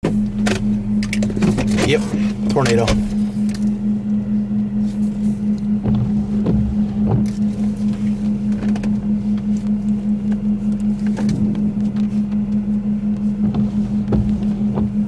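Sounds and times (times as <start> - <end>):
pulsing low hum: 0.0 - 15.0.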